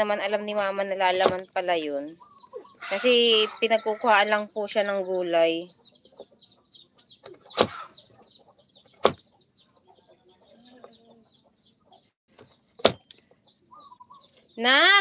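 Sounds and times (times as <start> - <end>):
chicks peeping: 0.7 - 14.7.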